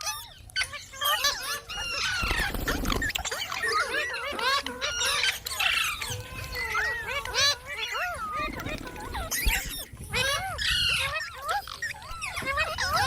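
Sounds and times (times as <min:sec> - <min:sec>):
parrot squawking and chattering: 0:00.0 - 0:13.0.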